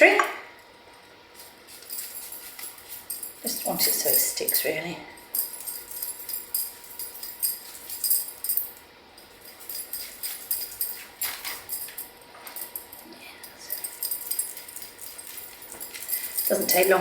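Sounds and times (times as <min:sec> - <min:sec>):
metal bracelets clinking: 0:01.3 - 0:17.0.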